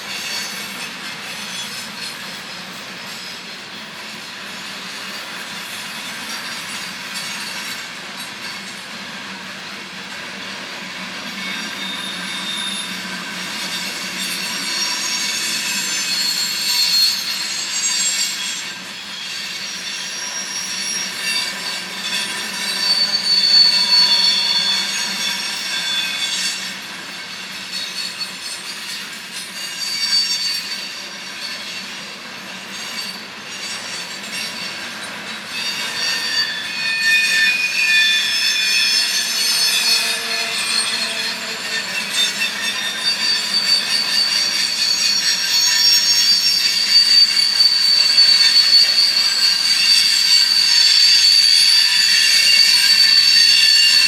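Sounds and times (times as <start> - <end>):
train rolling past: 0.0 - 54.0
train wheels squealing on rails: 0.0 - 54.0.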